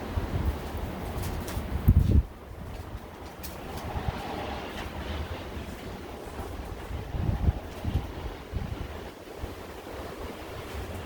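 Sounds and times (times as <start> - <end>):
hiss of blowing wind: 0.0 - 11.0
wind gusts buffeting microphone: 0.0 - 11.0.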